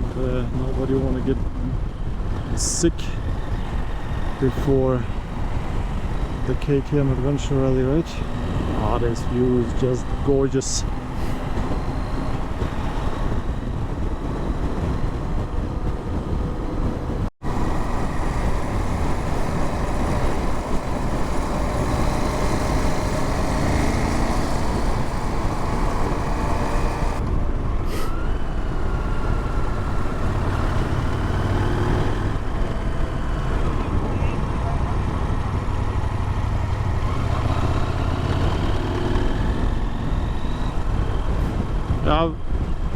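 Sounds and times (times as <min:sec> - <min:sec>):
motorcycle engine drone: 0:00.0 - 0:42.9
wind rush on microphone: 0:00.0 - 0:42.9.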